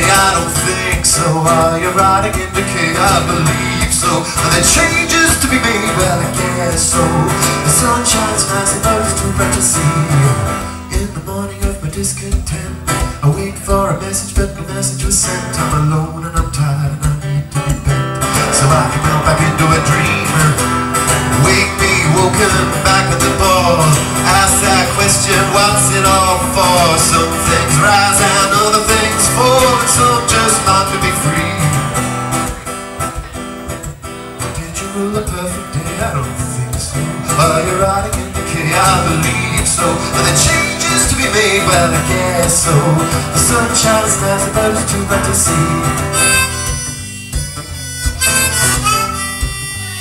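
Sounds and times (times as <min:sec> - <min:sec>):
man singing: 0:00.0 - 0:32.5, 0:34.3 - 0:47.4
strummed acoustic guitar: 0:00.0 - 0:50.0.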